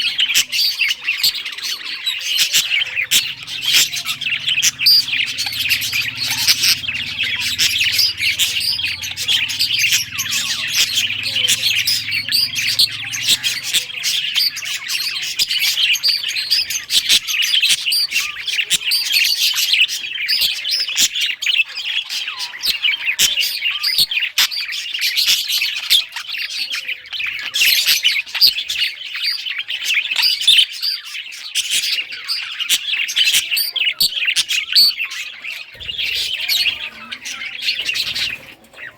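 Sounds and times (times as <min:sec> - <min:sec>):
budgies chattering and chirping: 0:00.0 - 0:38.9.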